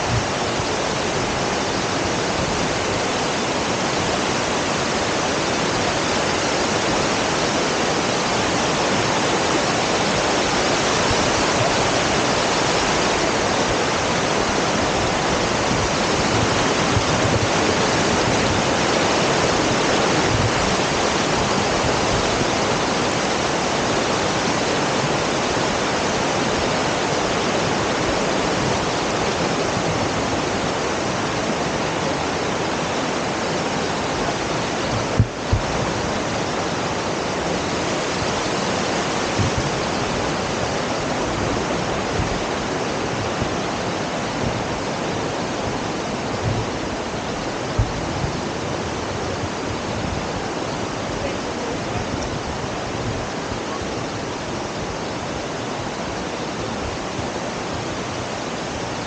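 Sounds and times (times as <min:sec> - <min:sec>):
river water rushing and splashing: 0:00.0 - 0:59.0.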